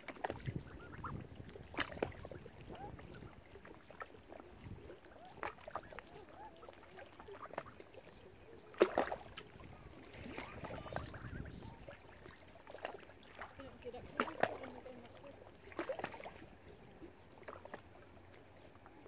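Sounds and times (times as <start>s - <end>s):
ducks calling softly: 0.0s - 19.0s
ducks dabbling in water: 0.0s - 19.0s.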